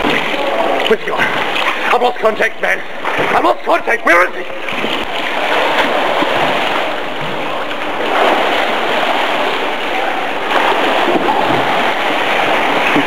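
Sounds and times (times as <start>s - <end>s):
pool water splashing: 0.0s - 13.0s.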